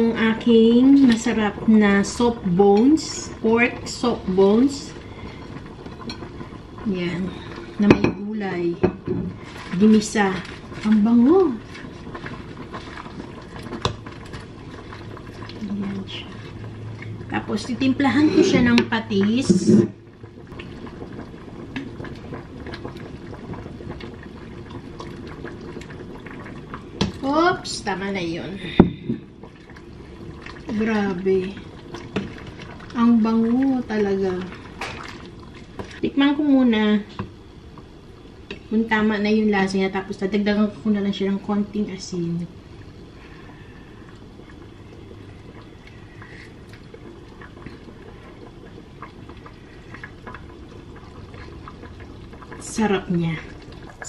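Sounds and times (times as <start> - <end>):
soup bubbling in pot: 0.0 - 54.0.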